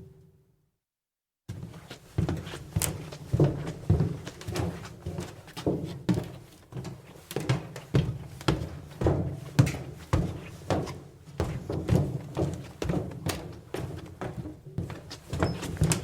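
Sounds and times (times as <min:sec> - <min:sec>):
footsteps on metal bleachers: 0:01.5 - 0:16.0.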